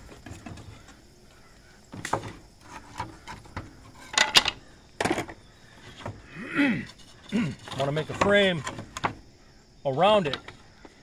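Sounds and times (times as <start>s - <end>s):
wood shuffling: 0.0s - 9.2s.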